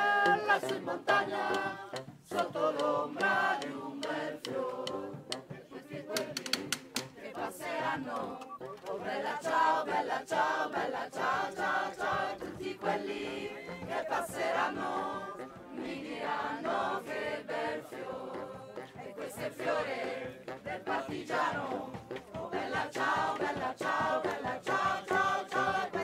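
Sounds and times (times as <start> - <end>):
group of voices singing: 0.0 - 26.0.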